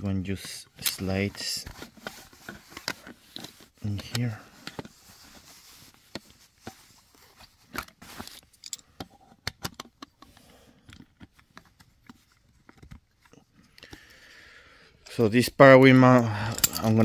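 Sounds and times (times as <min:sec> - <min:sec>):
plastic parts clicking and scraping: 0:00.4 - 0:14.1.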